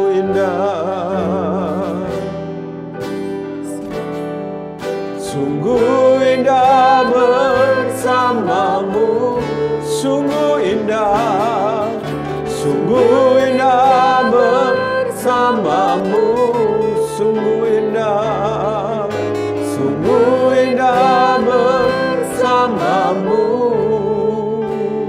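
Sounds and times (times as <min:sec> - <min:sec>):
person singing worship song: 0:00.0 - 0:04.2, 0:05.2 - 0:25.0
instrumental accompaniment: 0:00.0 - 0:25.0.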